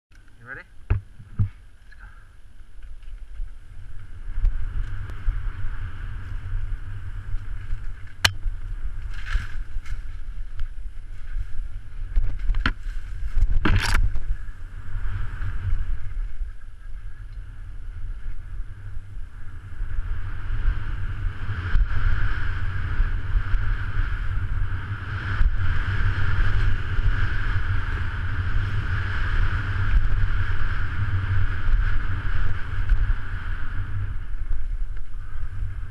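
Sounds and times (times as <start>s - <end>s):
bike tyres rolling on dirt: 0.1s - 35.9s
wind buffeting microphone: 2.6s - 35.9s.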